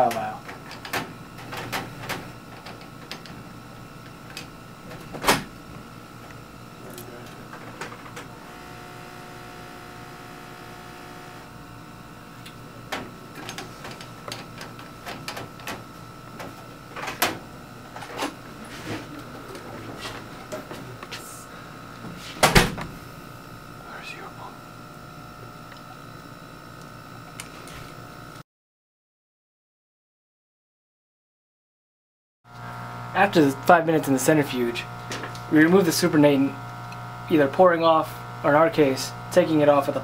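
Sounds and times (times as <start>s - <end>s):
electric pipette motor hum: 0.0s - 28.4s, 32.5s - 40.0s
steady hum: 0.0s - 28.4s, 32.5s - 40.0s.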